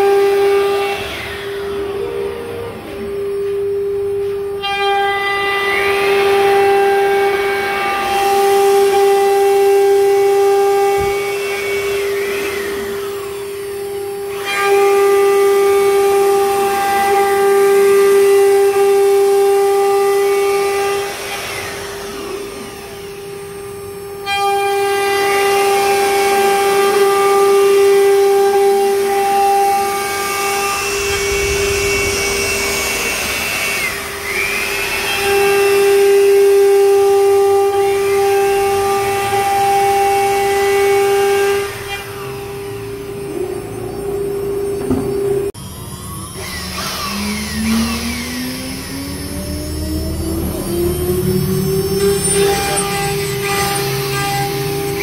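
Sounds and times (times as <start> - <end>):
drive motors whining: 0.0 - 24.3, 28.5 - 55.0
router spindle whining: 0.0 - 55.0.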